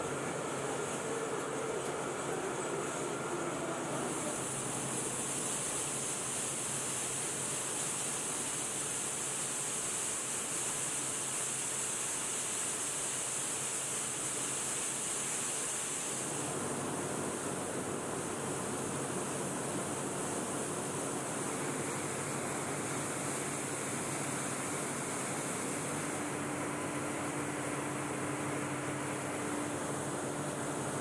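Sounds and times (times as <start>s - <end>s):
processing machinery hissing din: 0.0s - 31.0s.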